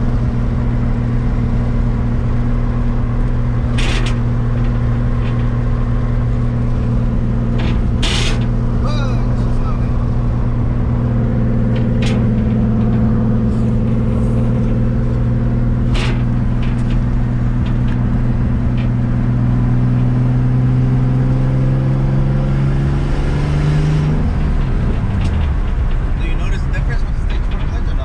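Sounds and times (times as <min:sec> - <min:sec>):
car engine running under load: 0:00.0 - 0:28.0.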